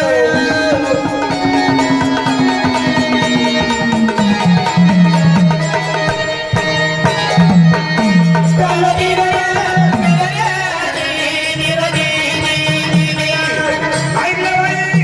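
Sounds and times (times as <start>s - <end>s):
devotional folk music melody: 0.0s - 15.0s
hand drum percussion: 0.0s - 15.0s.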